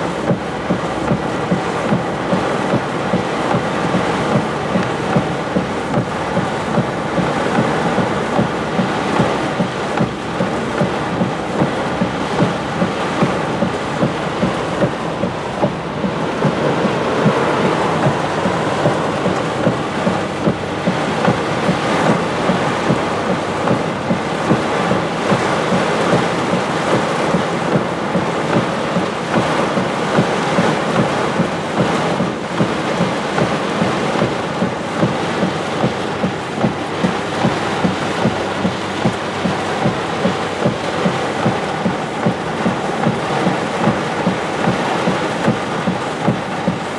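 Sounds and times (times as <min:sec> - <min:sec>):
heavy rain on a vehicle roof: 0:00.0 - 0:46.9.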